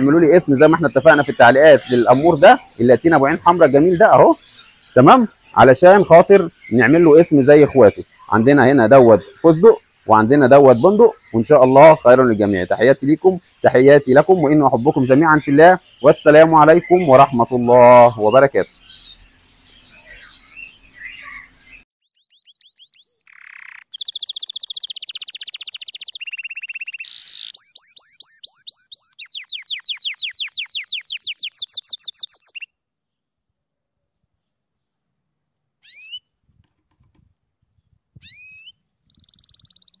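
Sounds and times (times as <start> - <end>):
budgerigars chirping: 0.0 - 32.7, 35.8 - 36.2, 38.2 - 40.0
bird singing trilled phrases: 0.0 - 33.2, 35.8 - 36.4, 37.6 - 40.0.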